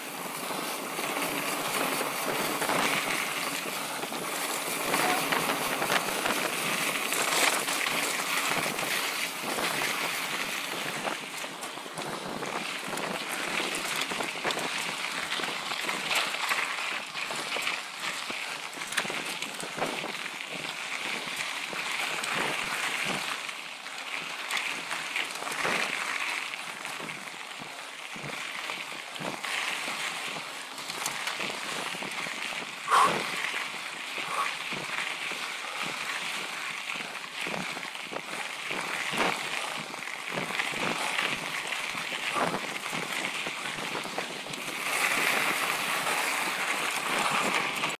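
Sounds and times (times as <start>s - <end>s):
bike clicks and rattles: 0.0s - 48.0s
bike tyres crunching on dirt: 0.0s - 48.0s.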